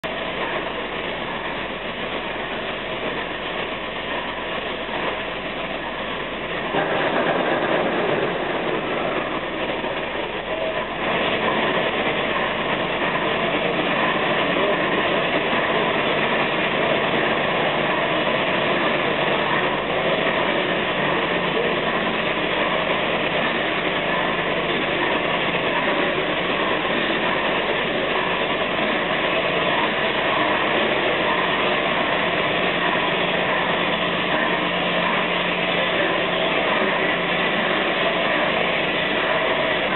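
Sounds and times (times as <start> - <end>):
steam locomotive pulling away: 0.1 - 39.9.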